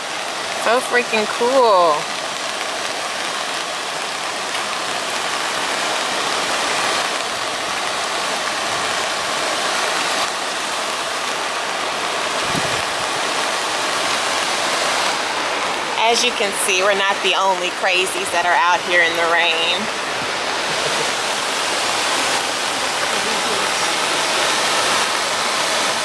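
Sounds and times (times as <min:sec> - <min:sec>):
rain: 0:00.0 - 0:26.0
waterfall rushing: 0:00.0 - 0:26.0.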